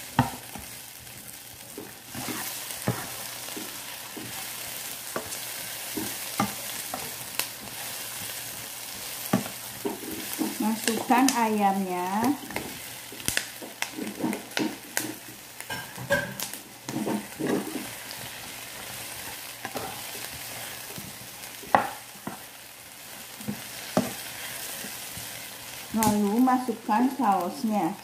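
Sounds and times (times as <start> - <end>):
vegetables sizzling in oil: 0.0 - 28.0
spatula scraping and knocking pan: 0.1 - 11.5, 12.4 - 22.5, 23.4 - 26.4.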